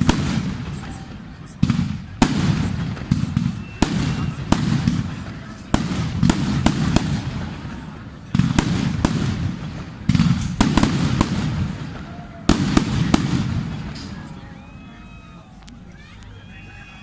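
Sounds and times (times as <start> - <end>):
low rumbling echo: 0.0 - 14.6
fireworks bangs: 0.0 - 15.6.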